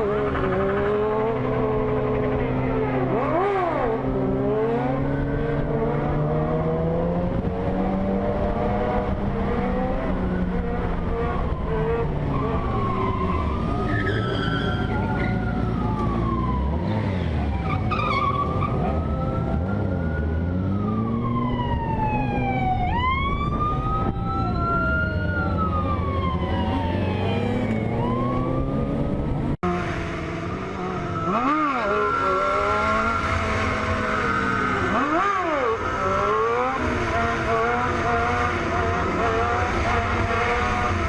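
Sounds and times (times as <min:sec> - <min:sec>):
police siren wailing: 0:00.0 - 0:41.0
vehicle engine and road noise: 0:00.0 - 0:41.0.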